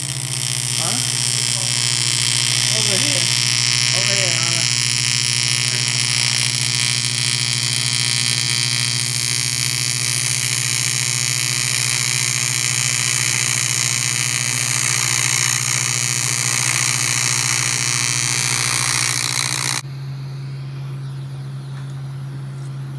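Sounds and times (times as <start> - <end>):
welding arc buzzing: 0.0 - 19.9.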